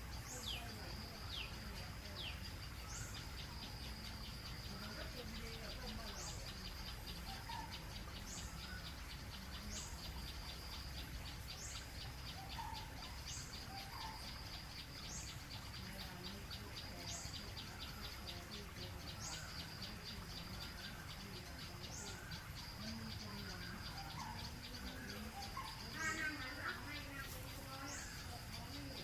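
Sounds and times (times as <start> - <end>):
bird calls: 0.0 - 29.0
high insect trill: 0.0 - 29.0.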